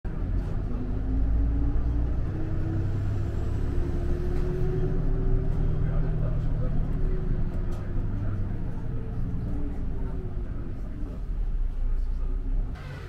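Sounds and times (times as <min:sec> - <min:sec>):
vehicle engine rumbling: 0:00.1 - 0:13.0.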